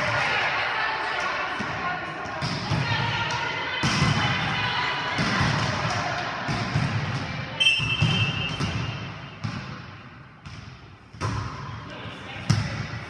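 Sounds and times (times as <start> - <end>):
players' voices: 0.0 - 9.8, 11.2 - 13.0.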